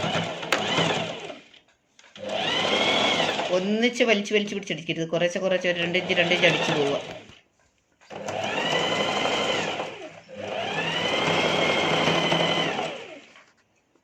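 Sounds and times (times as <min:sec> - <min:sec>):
electric sewing machine stitching: 0:00.0 - 0:04.2, 0:05.6 - 0:07.4, 0:08.1 - 0:13.5.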